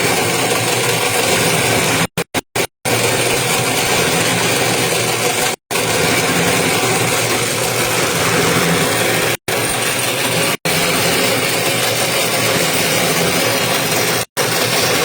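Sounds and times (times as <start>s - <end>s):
winding machine running: 0.0s - 15.0s.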